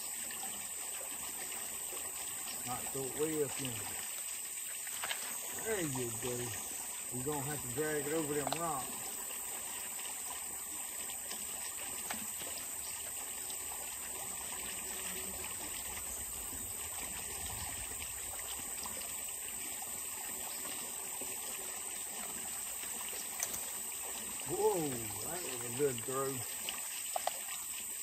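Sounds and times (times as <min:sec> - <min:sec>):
creek water trickling: 0:00.0 - 0:28.0
high-pitched insect chorus: 0:00.0 - 0:28.0.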